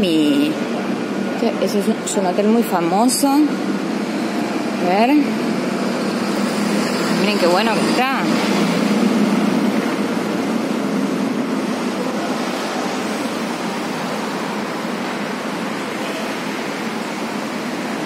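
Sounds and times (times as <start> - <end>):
city street noise: 0.0 - 18.0.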